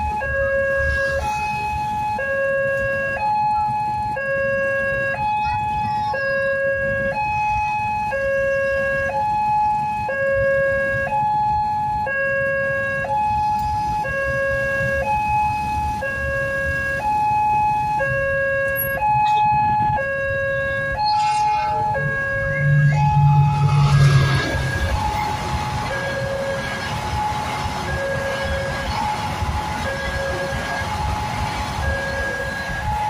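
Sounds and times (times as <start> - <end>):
traffic engine rumble: 0.0 - 33.0
two-tone warning siren: 0.0 - 33.0.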